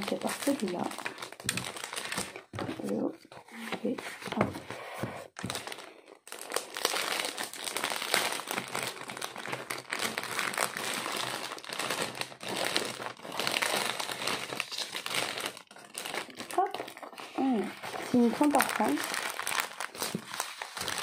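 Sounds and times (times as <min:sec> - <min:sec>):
plastic packaging crinkling: 0:00.0 - 0:04.4, 0:05.3 - 0:21.0.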